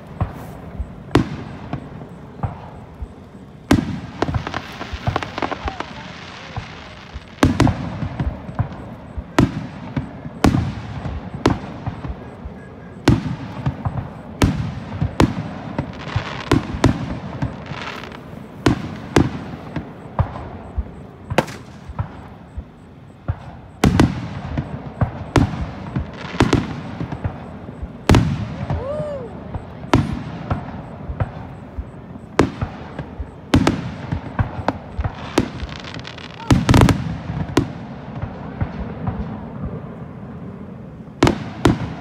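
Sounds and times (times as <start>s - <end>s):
firework shells bursting: 0.0s - 39.4s
firework crackle: 0.0s - 42.0s.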